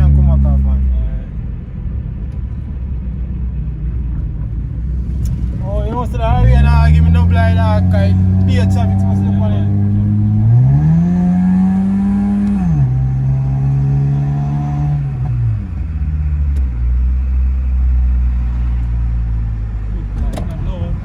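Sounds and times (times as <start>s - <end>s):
car engine accelerating hard: 0.0s - 1.3s, 4.0s - 21.0s.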